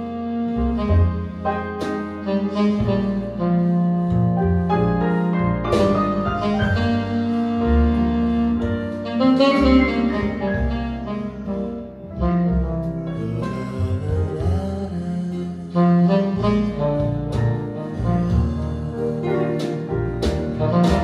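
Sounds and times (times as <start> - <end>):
slow pop ballad instrumental: 0.0 - 21.0.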